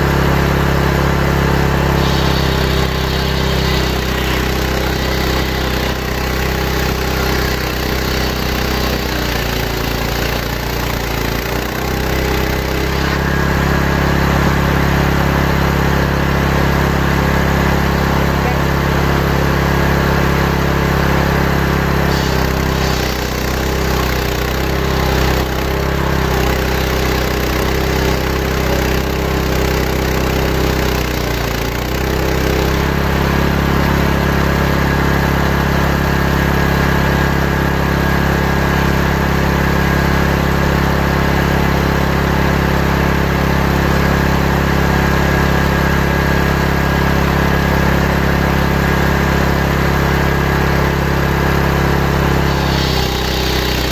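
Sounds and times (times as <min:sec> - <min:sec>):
table saw cutting a log: 0:00.0 - 0:53.9.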